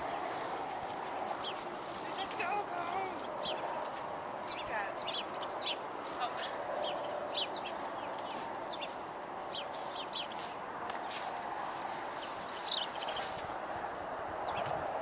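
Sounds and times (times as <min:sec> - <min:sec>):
small birds chirping: 0:00.0 - 0:13.6, 0:14.3 - 0:14.9
steady background hiss: 0:00.0 - 0:15.0.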